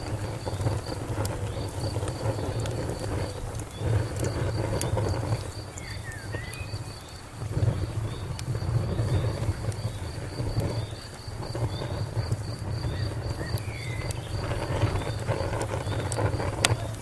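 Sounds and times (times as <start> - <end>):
cricket chirping: 0.0 - 17.0
wood fire crackling: 0.0 - 17.0.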